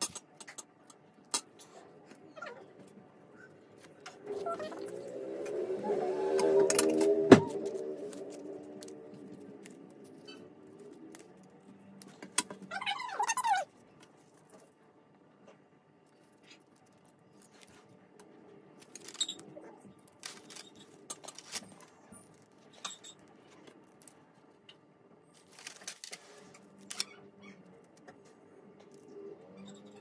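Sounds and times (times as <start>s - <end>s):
faint low hum: 0.1s - 30.0s.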